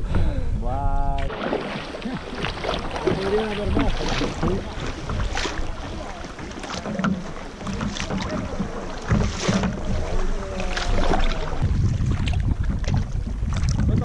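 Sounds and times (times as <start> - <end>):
wind rumble on microphone: 0.0 - 14.0
kayak paddle splashing water: 1.2 - 14.0.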